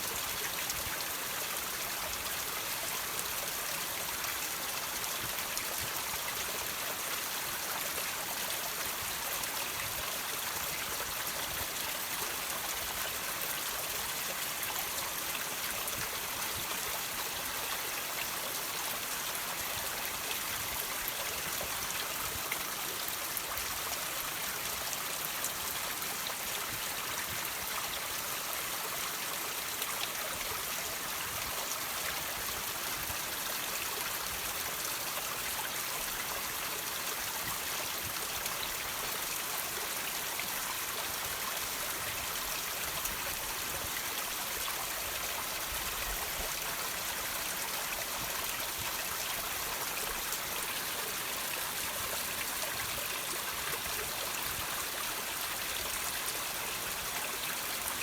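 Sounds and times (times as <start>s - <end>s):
water trickling over rocks: 0.0s - 58.0s.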